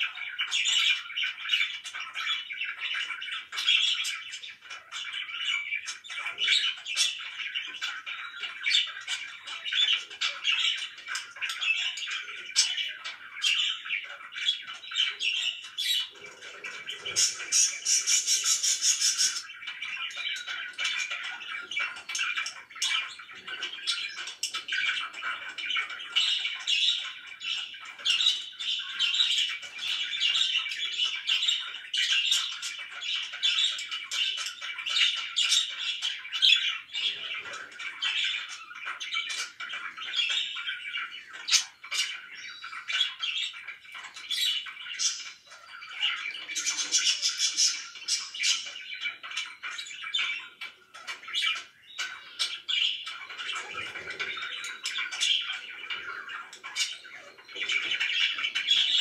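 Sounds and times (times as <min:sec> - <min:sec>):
budgerigars chirping and squawking: 0:00.0 - 0:59.0.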